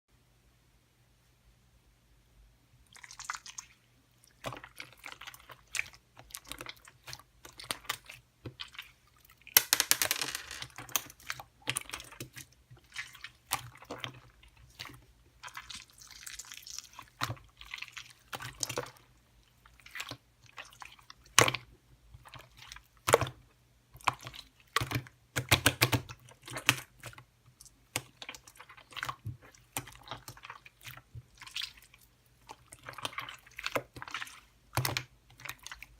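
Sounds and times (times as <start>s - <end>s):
wet clicks and squishes: 2.9s - 9.5s, 10.8s - 35.9s.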